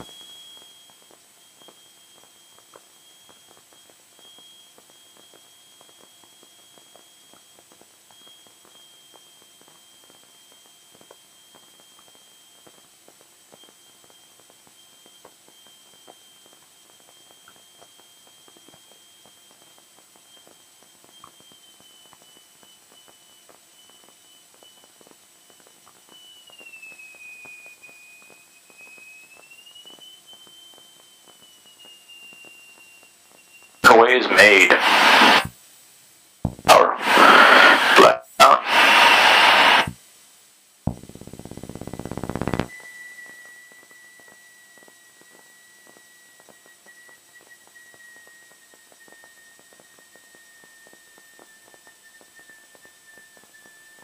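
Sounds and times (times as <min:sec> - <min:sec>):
faint high-pitched whine: 0:00.0 - 0:54.0
faint hiss: 0:00.0 - 0:54.0.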